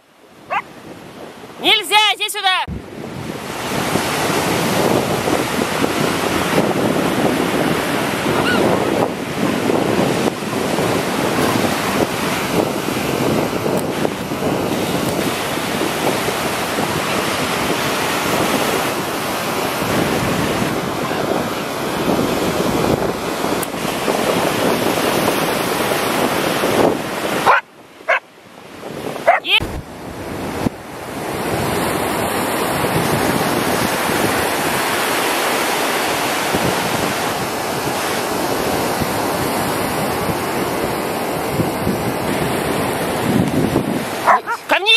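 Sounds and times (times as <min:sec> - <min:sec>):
sea surf breaking on beach: 0:00.0 - 0:44.9
wind buffeting microphone: 0:00.3 - 0:02.0, 0:02.7 - 0:44.9.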